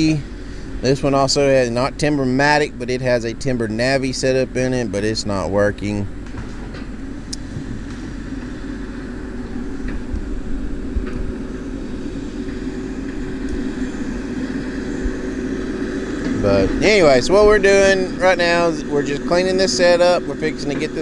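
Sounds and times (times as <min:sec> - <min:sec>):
diesel machinery engine drone: 0:00.0 - 0:21.0.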